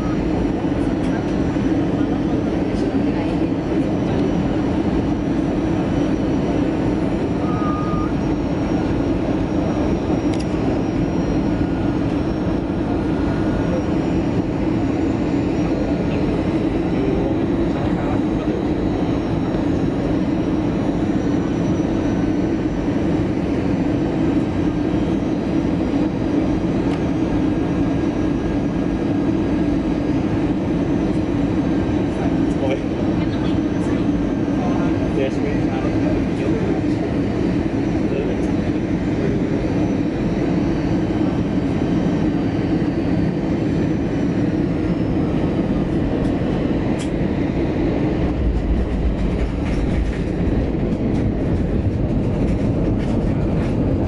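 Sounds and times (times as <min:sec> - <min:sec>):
airplane cabin engine and airflow noise: 0:00.0 - 0:54.0.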